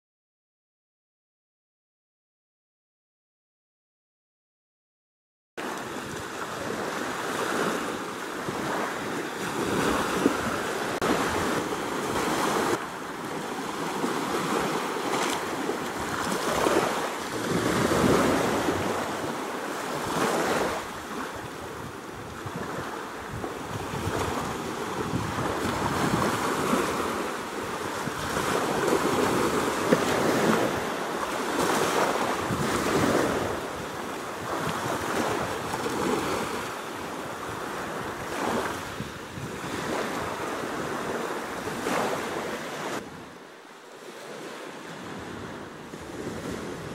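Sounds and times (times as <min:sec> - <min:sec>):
waves washing up a beach: 0:05.6 - 0:46.9.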